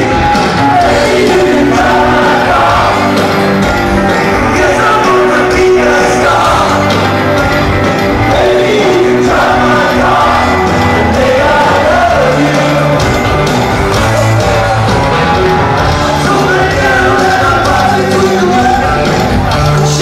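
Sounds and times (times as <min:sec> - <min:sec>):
live rock band playing: 0:00.0 - 0:20.0
person singing lead vocal: 0:00.0 - 0:20.0.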